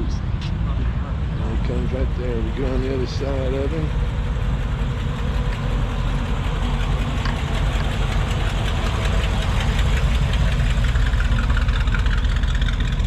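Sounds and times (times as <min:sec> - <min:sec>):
car engine running low speed: 0:00.0 - 0:13.0.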